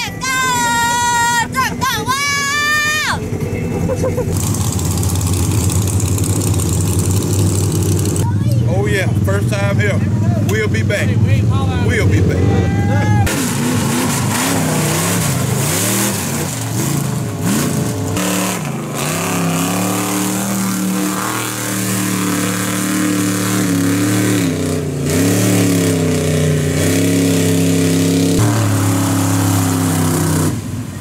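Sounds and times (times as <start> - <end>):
truck engines revving: 0.0 - 31.0.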